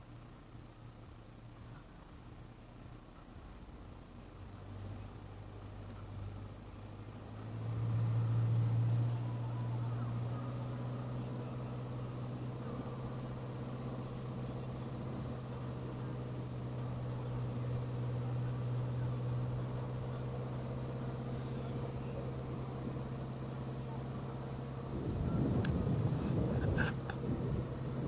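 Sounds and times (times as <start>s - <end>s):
car engine running low: 0.0s - 28.0s.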